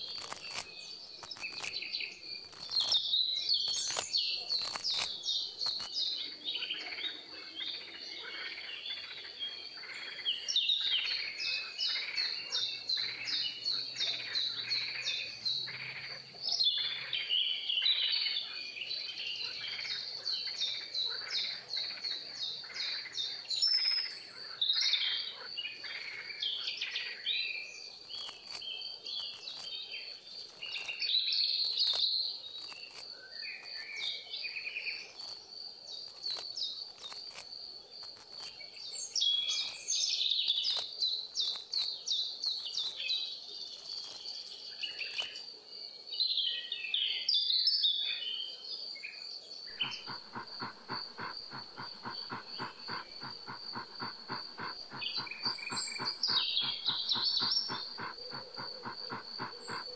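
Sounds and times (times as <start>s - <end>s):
wild birds singing and chirping: 0.0s - 59.9s.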